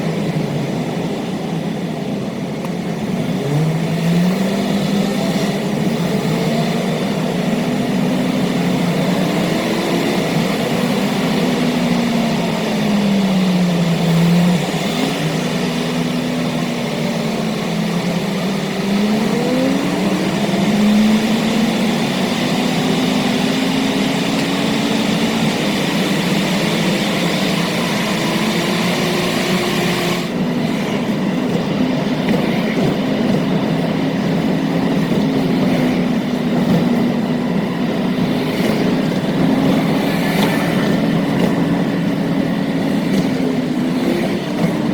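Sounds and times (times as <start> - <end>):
car engine accelerating: 0.0 - 44.9
road and wind noise: 0.0 - 44.9.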